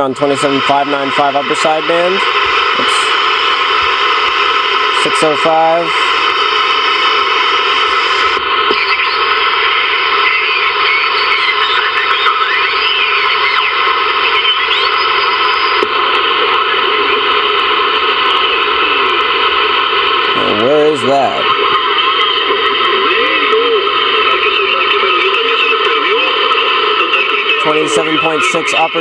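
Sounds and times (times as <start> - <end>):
radio static hiss: 0.0 - 29.0
warbling radio signals: 0.0 - 29.0.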